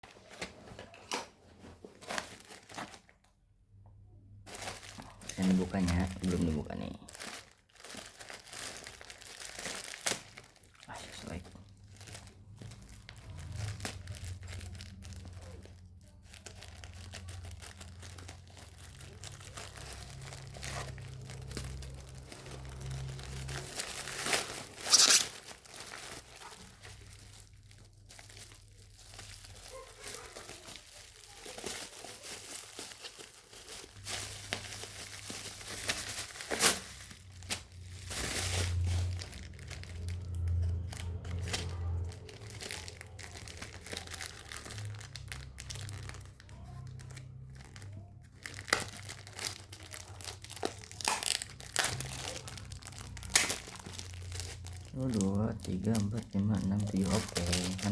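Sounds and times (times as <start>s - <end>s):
packaging crinkling: 0.0s - 3.3s, 4.2s - 57.9s
packaging ripping: 2.0s - 3.1s, 4.5s - 57.9s.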